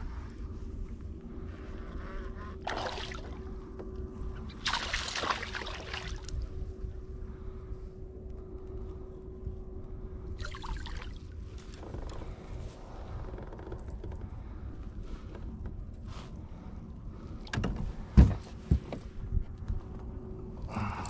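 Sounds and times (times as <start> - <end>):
steady hum: 0.0 - 21.0
wind and water rumble: 0.0 - 21.0.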